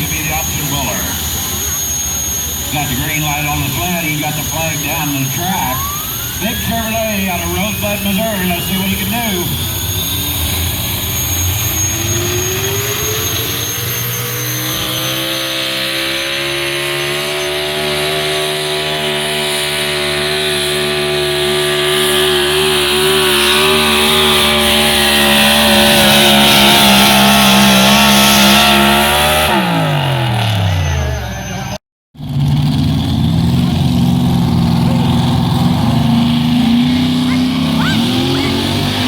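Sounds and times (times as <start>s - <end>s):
truck engine at full throttle: 0.0s - 39.0s.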